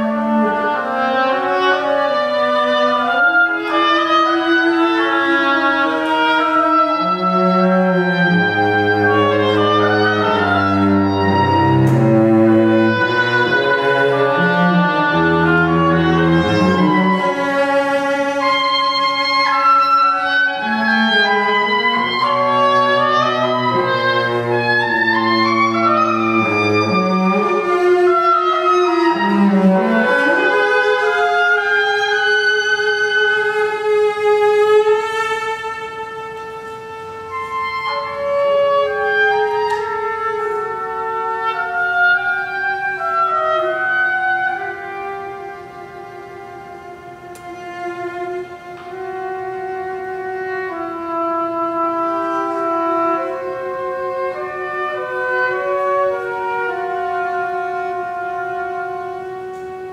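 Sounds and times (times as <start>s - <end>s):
cello: 0.0s - 59.9s
oboe: 0.0s - 59.9s.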